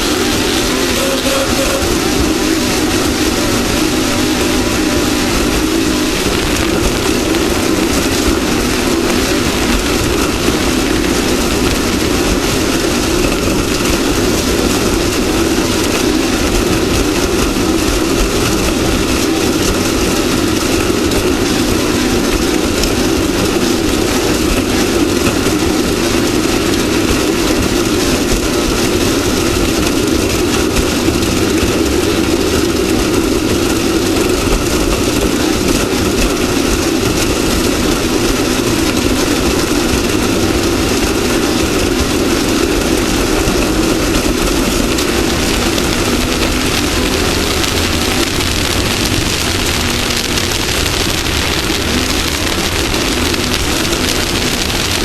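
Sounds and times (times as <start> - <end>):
race vehicle engine running: 0.0 - 55.0
road and wind noise: 0.0 - 55.0.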